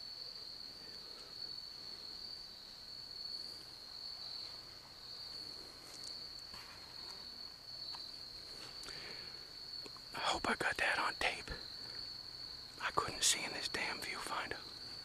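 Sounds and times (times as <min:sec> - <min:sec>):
faint ticks and rustles: 0:00.0 - 0:15.0
insects buzzing: 0:00.0 - 0:15.0.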